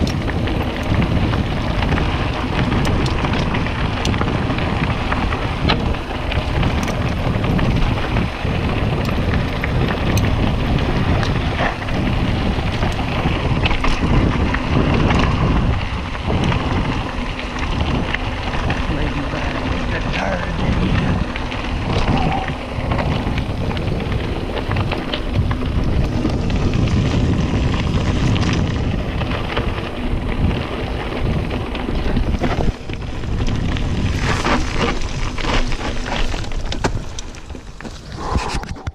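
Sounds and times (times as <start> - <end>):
bike clicks and rattles: 0.0 - 38.9
tyres crunching on dirt: 0.0 - 38.9
wind rumbling on microphone: 0.0 - 38.9.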